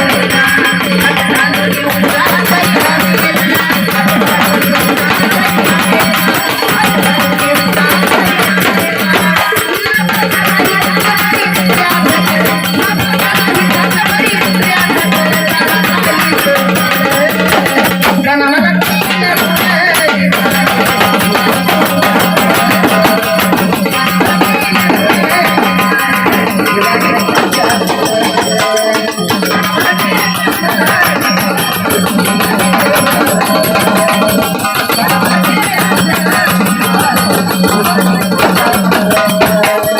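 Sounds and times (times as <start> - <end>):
hand drums: 0.0 - 39.9.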